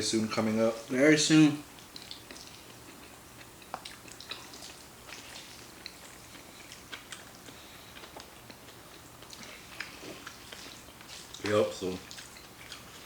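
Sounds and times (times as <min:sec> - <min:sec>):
chewing noodles: 0:01.7 - 0:13.0.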